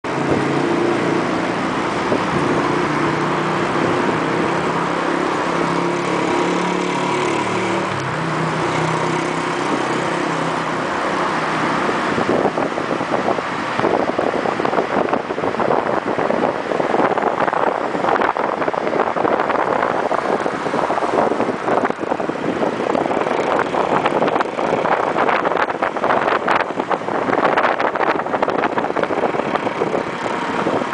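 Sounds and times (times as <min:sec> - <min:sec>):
road noise: 0:00.0 - 0:30.9
vehicle engine: 0:00.0 - 0:30.9
wind buffeting microphone: 0:00.1 - 0:30.9.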